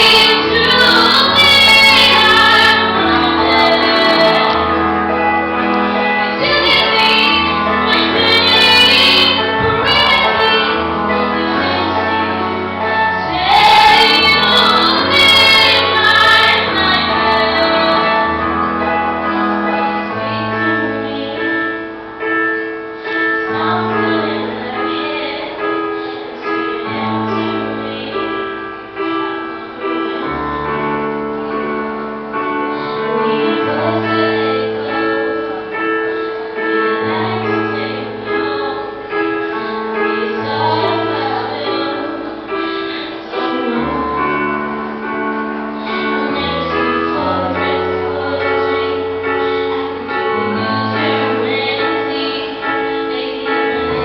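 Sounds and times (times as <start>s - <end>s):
woman singing pop ballad: 0.0s - 5.2s, 5.8s - 18.6s, 19.8s - 21.8s, 23.2s - 28.6s, 32.7s - 44.4s, 45.8s - 54.0s
piano chords: 0.0s - 54.0s.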